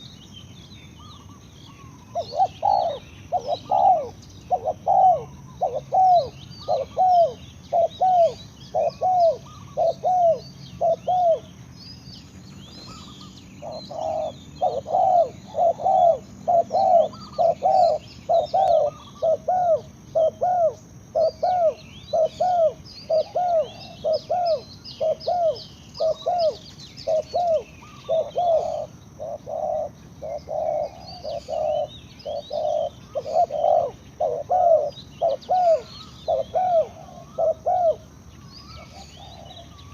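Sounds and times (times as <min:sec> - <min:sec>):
small birds chirping faintly: 0:00.0 - 0:39.9
doves cooing: 0:01.0 - 0:11.6, 0:12.6 - 0:39.9.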